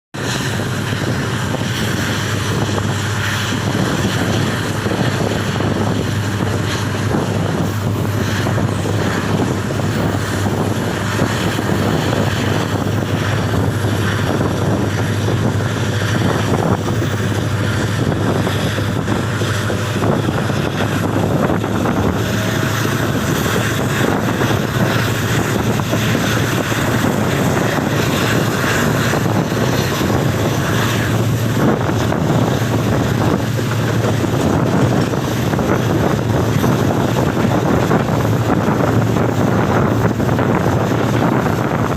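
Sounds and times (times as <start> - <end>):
rushing wind: 0.1 - 41.9
train running noise: 0.1 - 41.9
locomotive diesel engine humming: 0.2 - 41.9.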